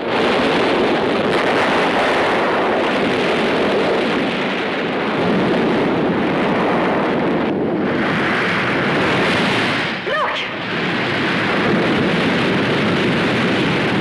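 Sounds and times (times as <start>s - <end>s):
loud steady rushing noise: 0.0s - 14.0s.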